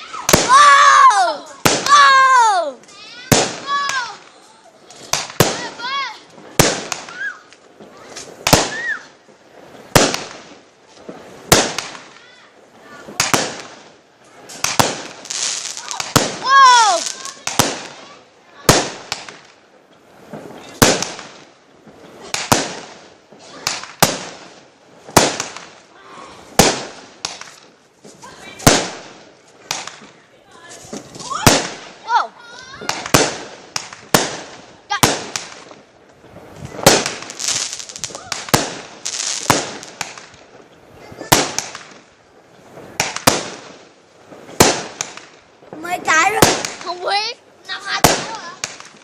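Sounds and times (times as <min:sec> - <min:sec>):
fireworks bangs echoing: 0:00.0 - 0:49.0.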